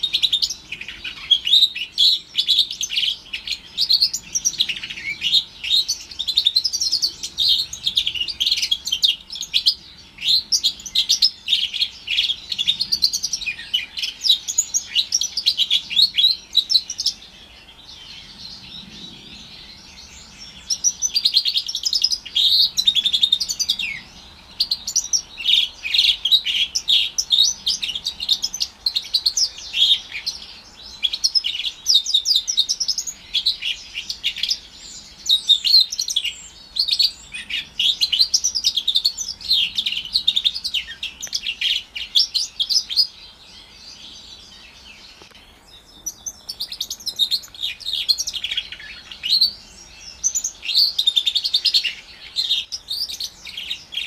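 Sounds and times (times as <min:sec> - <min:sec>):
bird singing high twittering notes: 0:00.0 - 0:54.0.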